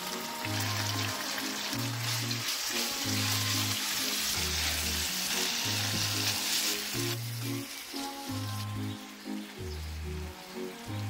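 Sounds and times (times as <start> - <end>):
chicken sizzling in frying pan: 0.0 - 10.8
background music with bass line: 0.0 - 11.0.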